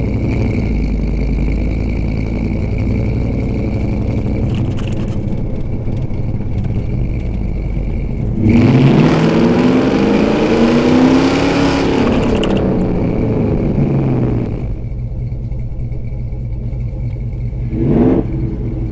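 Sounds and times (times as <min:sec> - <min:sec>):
engine revving through exhaust: 0:00.0 - 0:05.2, 0:06.3 - 0:15.0, 0:17.6 - 0:18.9.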